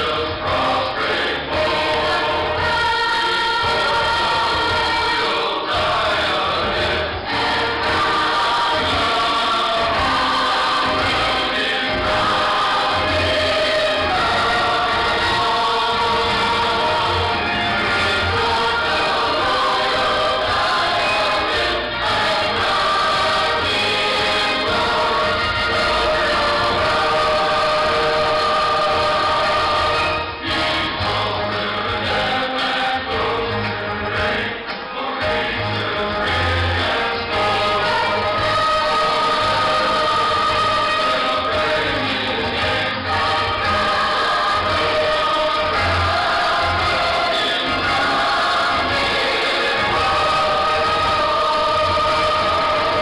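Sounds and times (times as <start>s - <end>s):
accompanying music: 0.0s - 53.0s
choir singing: 0.0s - 53.0s.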